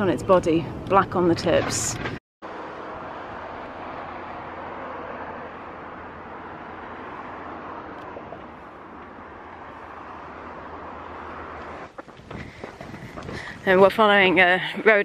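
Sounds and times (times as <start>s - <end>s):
distant road traffic rushing: 0.0s - 15.0s.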